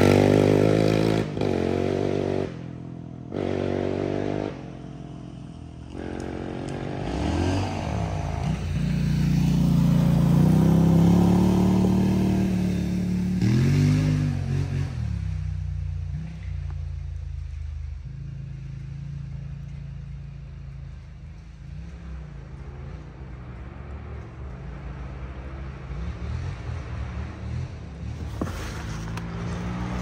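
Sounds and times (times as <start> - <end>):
atv engine revving: 0.0 - 30.0.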